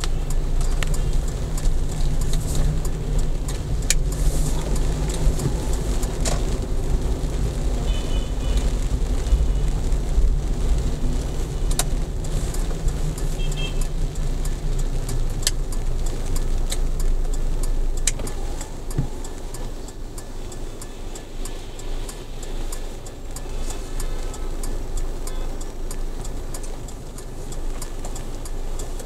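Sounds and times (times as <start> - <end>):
car engine and tyre rumble: 0.0 - 29.0
hiss of wet road: 0.0 - 29.0
sharp ticks: 0.0 - 29.0.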